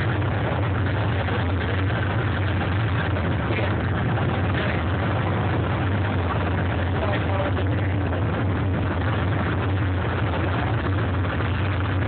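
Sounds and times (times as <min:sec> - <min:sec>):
tram engine humming: 0:00.0 - 0:12.0.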